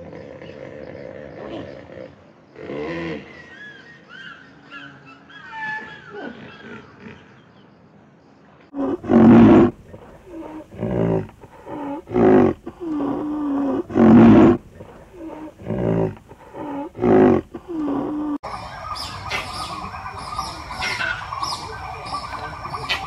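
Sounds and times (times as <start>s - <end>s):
rhinoceros calling: 0.0s - 7.6s, 8.7s - 23.0s.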